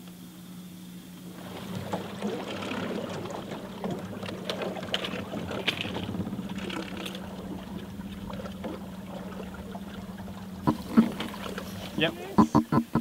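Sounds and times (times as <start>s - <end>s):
boat motor humming: 0.7s - 13.0s.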